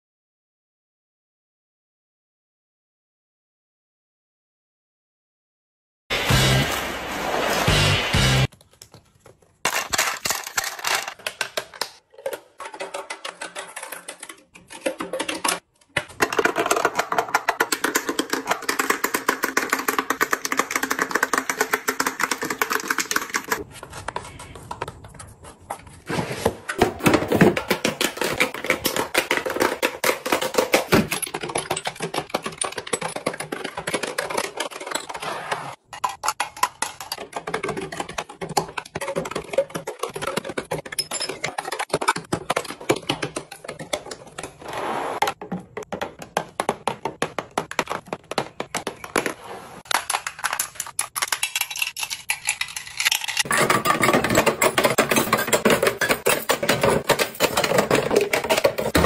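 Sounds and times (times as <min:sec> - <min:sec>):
plastic makeup containers clacking: 0:08.6 - 0:25.6, 0:26.8 - 0:35.2, 0:35.8 - 0:44.6, 0:45.3 - 0:59.0.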